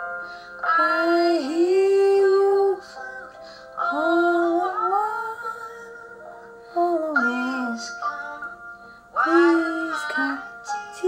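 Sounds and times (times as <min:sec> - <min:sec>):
woman singing along: 0:00.6 - 0:06.1, 0:06.8 - 0:08.6, 0:09.2 - 0:11.0
woman singing with piano: 0:00.6 - 0:11.0.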